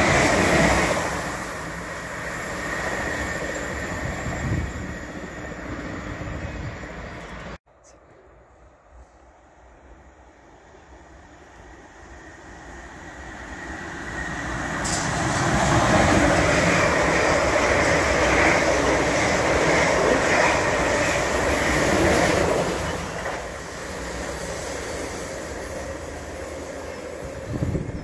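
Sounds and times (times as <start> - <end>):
wheels on rail: 0.0 - 7.6, 8.5 - 28.0
train passing at speed: 0.0 - 28.0.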